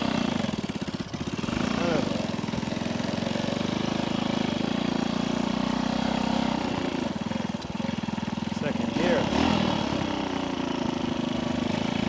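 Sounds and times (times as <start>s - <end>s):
motorcycle engine pulling away: 0.0s - 12.0s.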